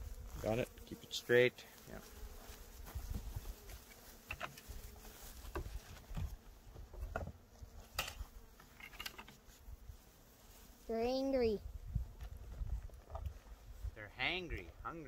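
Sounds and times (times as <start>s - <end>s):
bees buzzing: 0.0s - 12.5s.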